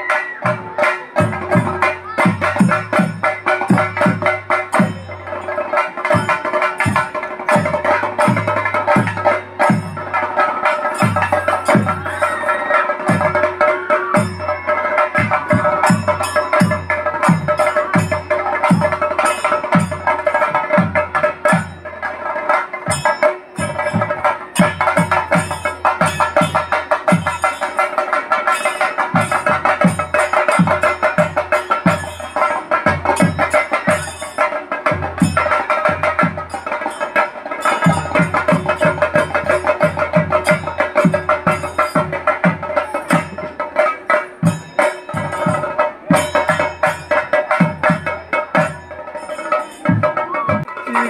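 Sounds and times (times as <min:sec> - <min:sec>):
fast drumming with sticks: 0:00.0 - 0:51.0.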